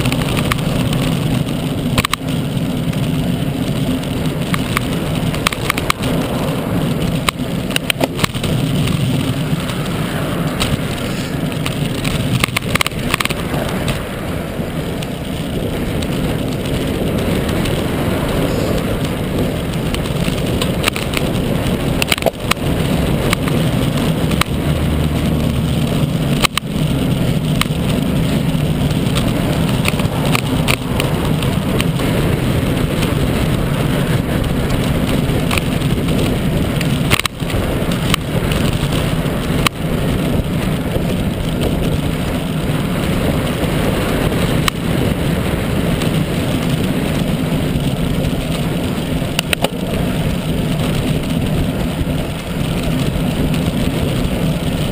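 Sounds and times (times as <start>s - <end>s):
bicycle tyre and road noise: 0.0s - 54.9s
wind rushing over microphone: 0.0s - 54.9s.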